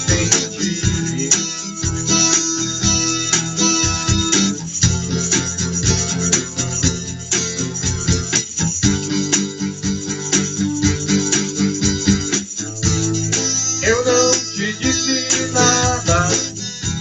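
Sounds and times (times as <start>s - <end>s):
acoustic guitar strumming: 0.0s - 17.0s
electronic drum beats: 0.0s - 17.0s
tambourine jingles: 0.0s - 17.0s.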